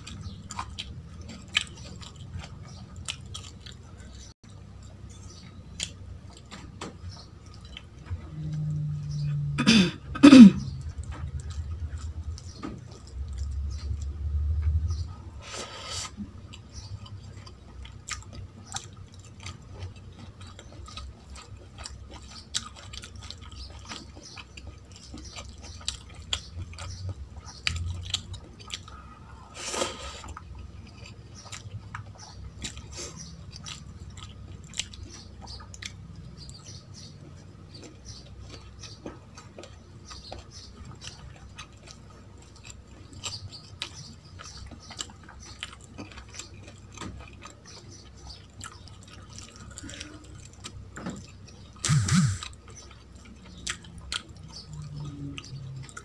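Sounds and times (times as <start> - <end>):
close chewing with wet mouth clicks: 0.0 - 9.4, 10.6 - 56.0.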